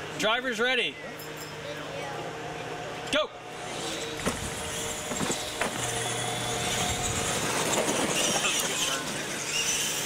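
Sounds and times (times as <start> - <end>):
electric motors whining: 1.1 - 10.0.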